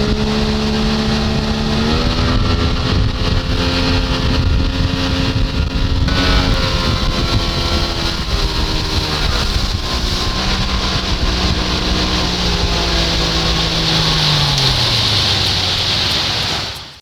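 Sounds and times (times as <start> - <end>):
outboard motor running: 0.0 - 17.0
wind buffeting microphone: 0.0 - 17.0.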